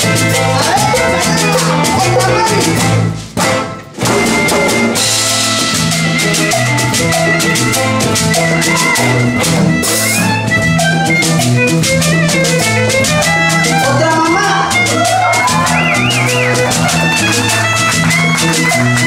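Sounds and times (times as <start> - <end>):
violin melody: 0.0 - 3.2, 3.8 - 19.0
drum kit: 0.0 - 19.0
electric bass: 0.0 - 19.0
latin band playing: 0.0 - 19.0
strummed small guitar: 0.0 - 19.0.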